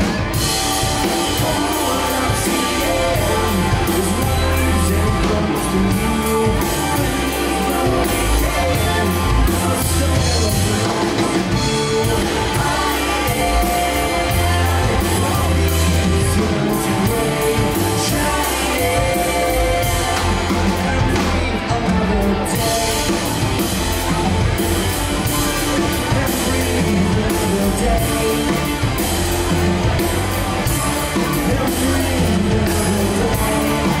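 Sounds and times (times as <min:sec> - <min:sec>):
man singing into a microphone: 0:00.0 - 0:23.3, 0:25.3 - 0:34.0
drum kit beat: 0:00.0 - 0:34.0
electric bass: 0:00.0 - 0:34.0
electric guitar: 0:00.0 - 0:34.0
keyboard: 0:00.0 - 0:34.0.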